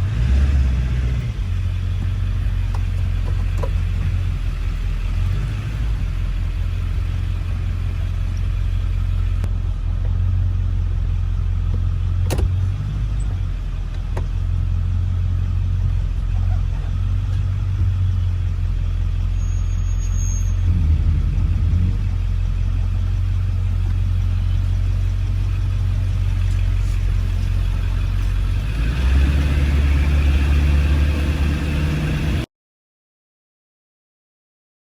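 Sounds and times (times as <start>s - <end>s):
diesel truck engine running: 0.0s - 32.5s.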